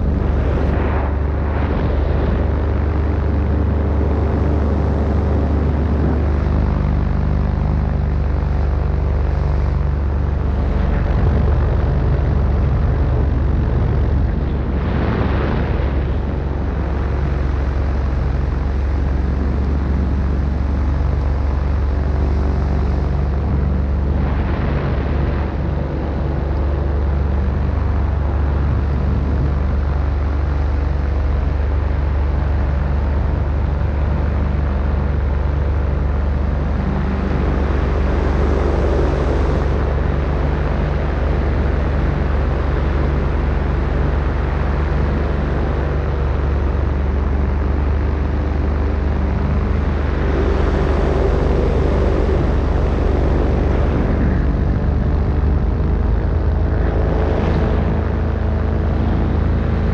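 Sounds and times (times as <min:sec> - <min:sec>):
paramotor engine drone: 0:00.0 - 0:59.9
wind rushing over microphone: 0:00.0 - 0:59.9.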